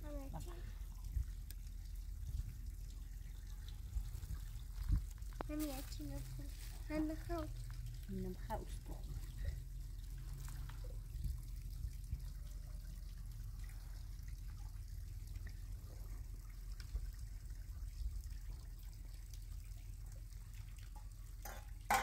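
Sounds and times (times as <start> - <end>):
low rumble: 0.0 - 18.6
light rain patter: 0.0 - 22.0
water drips: 0.0 - 22.0.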